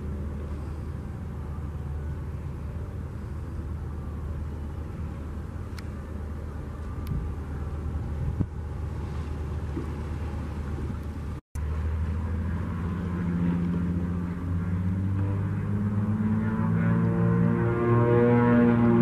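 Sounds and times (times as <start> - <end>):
floatplane engine and propeller drone: 0.0 - 19.0.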